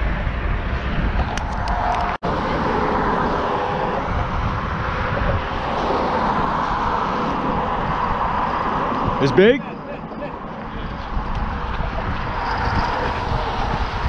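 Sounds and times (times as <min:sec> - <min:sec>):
road traffic roar: 0:00.0 - 0:14.0
wind noise: 0:00.0 - 0:14.0.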